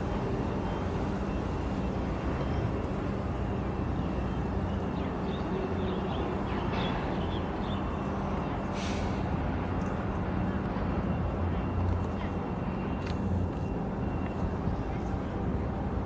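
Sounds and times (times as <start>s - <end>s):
distant engines droning: 0.0s - 16.0s.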